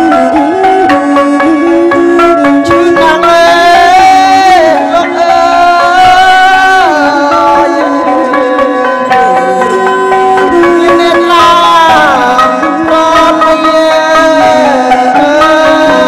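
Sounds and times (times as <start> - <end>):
melodic instruments playing: 0.0 - 16.0.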